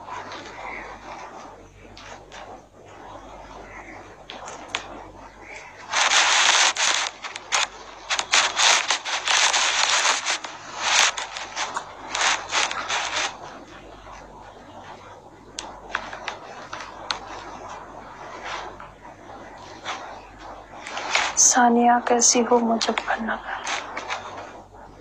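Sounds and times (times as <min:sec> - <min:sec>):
scratchy rubbing on microphone: 0:00.0 - 0:25.0.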